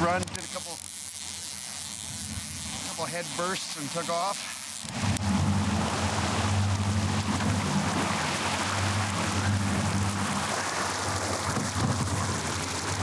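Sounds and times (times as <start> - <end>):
churning wake water: 0.0 - 13.0
outboard motor humming: 0.0 - 13.0.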